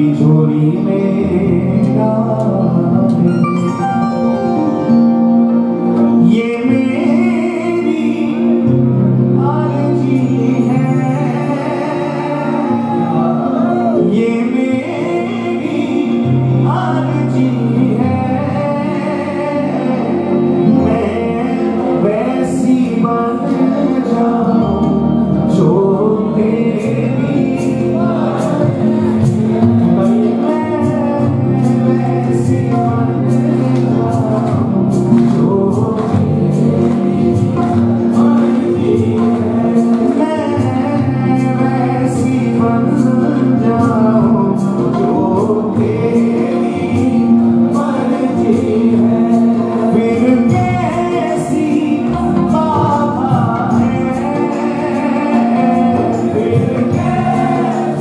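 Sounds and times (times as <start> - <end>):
held accompanying notes: 0.0 - 58.0
men singing devotional song: 6.0 - 58.0.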